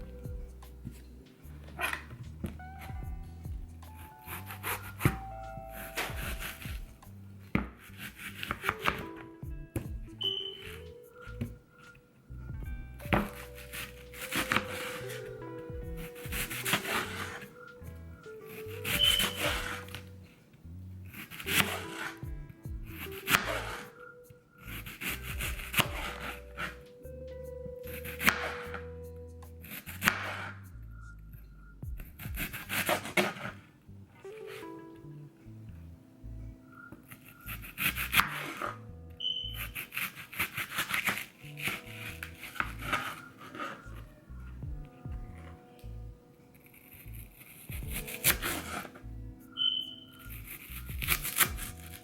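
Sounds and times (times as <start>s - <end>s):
background music: 0.0s - 52.0s.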